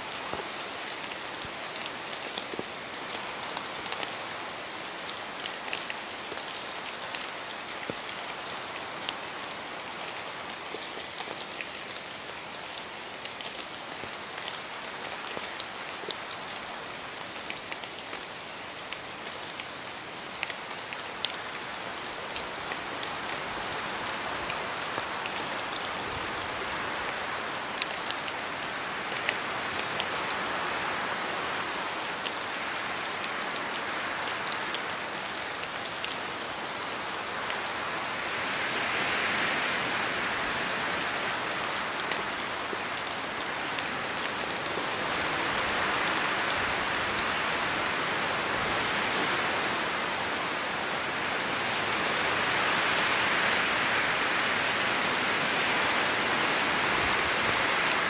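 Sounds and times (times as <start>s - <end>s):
raindrops ticking on surfaces: 0.0s - 58.0s.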